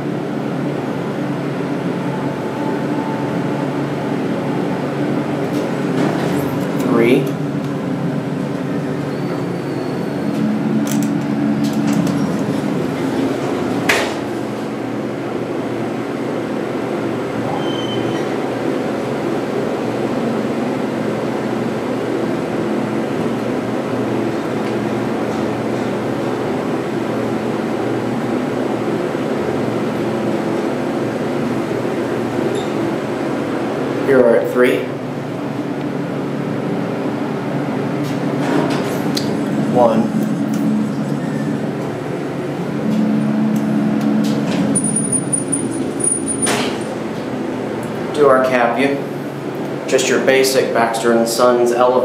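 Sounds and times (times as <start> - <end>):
elevator hum and rumble: 0.0 - 52.0.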